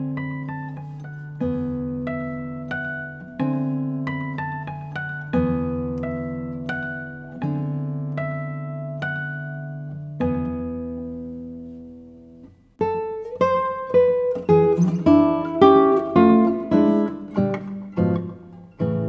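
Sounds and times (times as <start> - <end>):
plucked string instrument music: 0.0 - 19.0.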